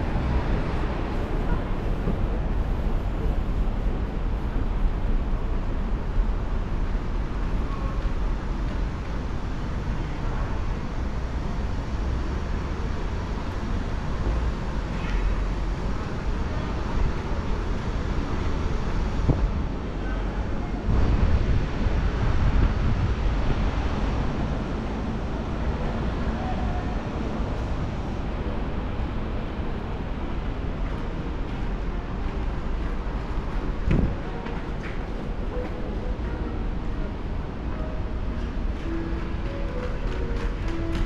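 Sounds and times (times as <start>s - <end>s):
wind rumbling on microphone: 0.0s - 41.0s.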